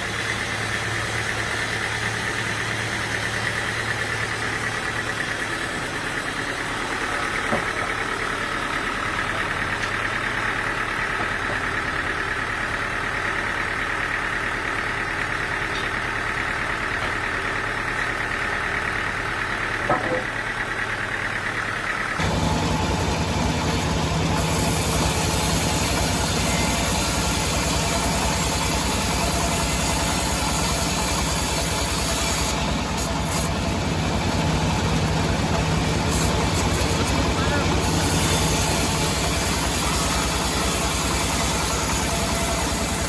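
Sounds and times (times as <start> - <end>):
sawmill machinery running: 0.0 - 43.0.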